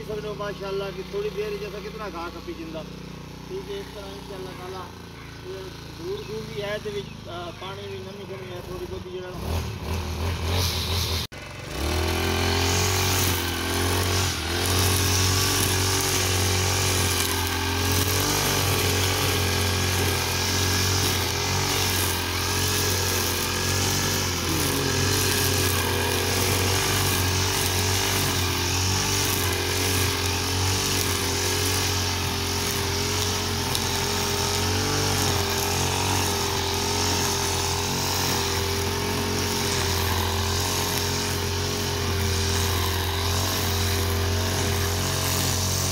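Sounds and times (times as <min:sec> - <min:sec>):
brush cutter engine running: 0:00.0 - 0:45.9
trimmer line cutting grass: 0:00.0 - 0:45.9.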